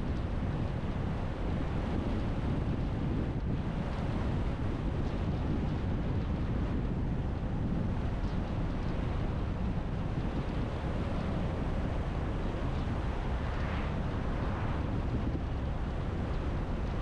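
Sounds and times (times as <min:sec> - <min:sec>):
wind buffeting microphone: 0:00.0 - 0:17.0
wind rumble from moving car: 0:00.0 - 0:17.0.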